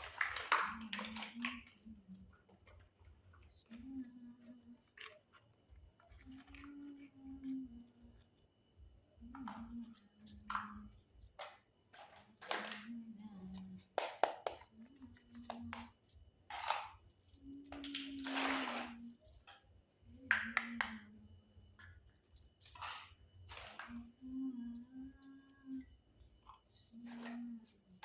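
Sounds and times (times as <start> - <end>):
toy kitchen pieces clicking and clinking: 0.0 - 7.9, 9.3 - 28.0.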